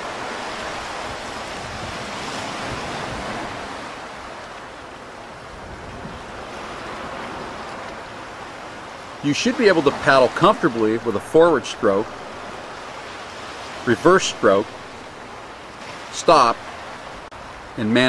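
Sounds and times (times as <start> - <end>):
ocean water washing: 0.0 - 18.0.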